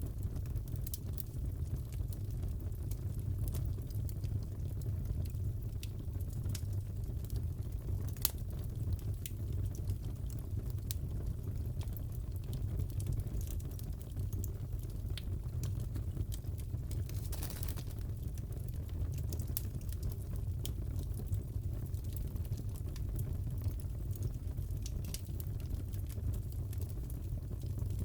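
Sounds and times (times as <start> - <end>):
fire popping and crackling: 0.0 - 28.0
low rumble of fire: 0.0 - 28.0.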